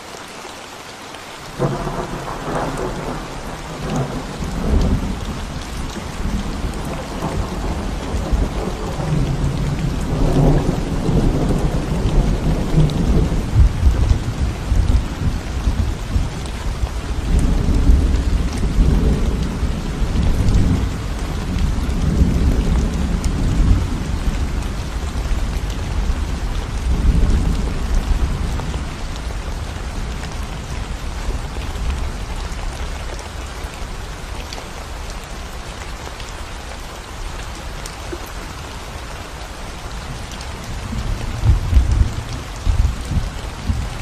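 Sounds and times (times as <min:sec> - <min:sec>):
rain on concrete and plants: 0:00.0 - 0:44.0.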